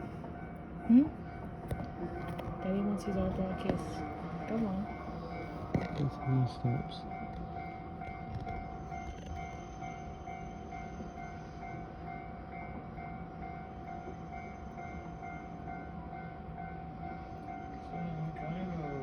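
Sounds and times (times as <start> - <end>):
bullet train rumbling: 0.0 - 19.0
pulsing steady tone: 0.0 - 19.0.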